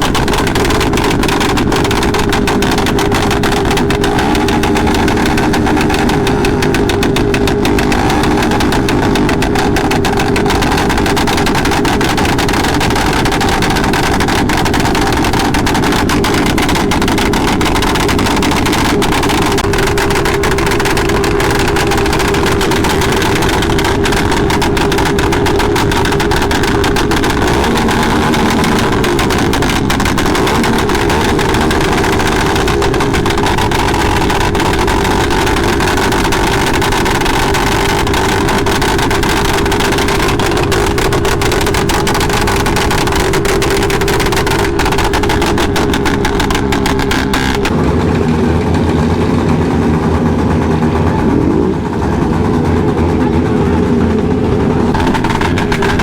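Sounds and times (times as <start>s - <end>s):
motorcycle engine running: 0.0s - 56.0s
rush of noise: 0.0s - 56.0s.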